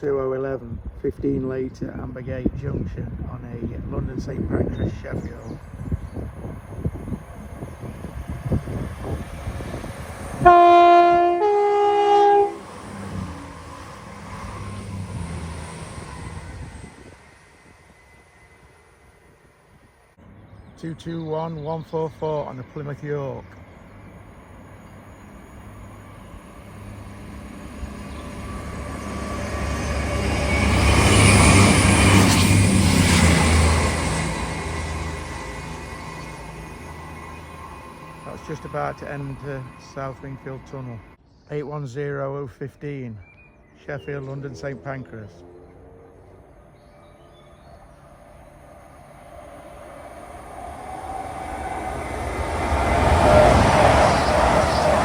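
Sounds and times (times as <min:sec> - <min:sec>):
diesel train approaching: 0:00.0 - 0:41.2, 0:43.5 - 0:55.0.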